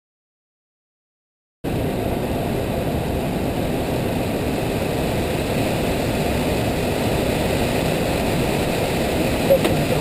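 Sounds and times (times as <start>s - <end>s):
cockpit rushing noise in rain: 1.7s - 10.0s.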